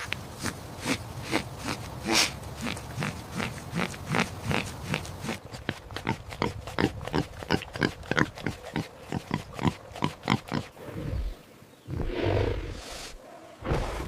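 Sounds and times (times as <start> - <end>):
pig grunting: 0.4 - 12.9.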